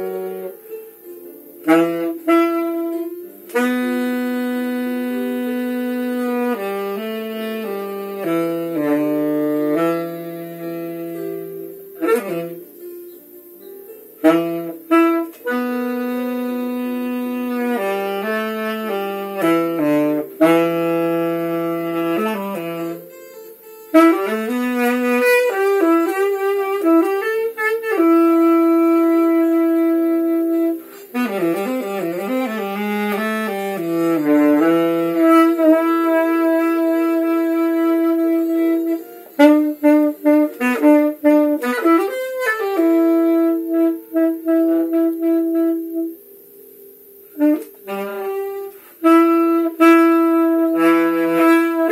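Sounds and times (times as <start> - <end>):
solo saxophone melody: 0.0 - 46.6, 47.2 - 51.9.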